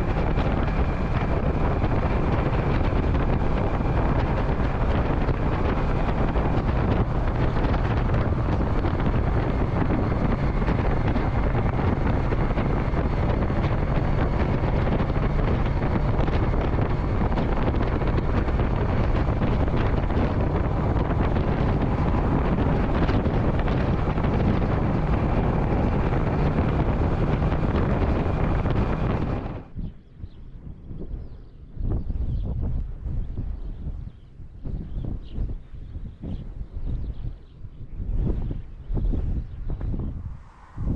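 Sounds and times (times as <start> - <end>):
motorcycle engine drone: 0.0 - 40.9
wind rushing over microphone: 0.0 - 40.9.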